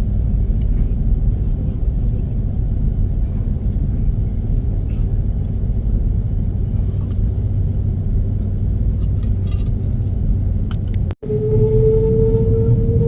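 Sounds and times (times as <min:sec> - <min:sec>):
airplane cabin rumble: 0:00.0 - 0:13.0
rising engine whine: 0:00.0 - 0:13.0.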